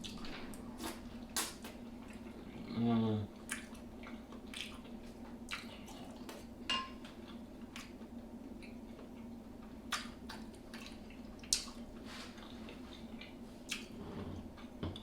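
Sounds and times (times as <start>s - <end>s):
soft wet eating sounds: 0.0s - 15.0s
steady low hum: 0.0s - 15.0s.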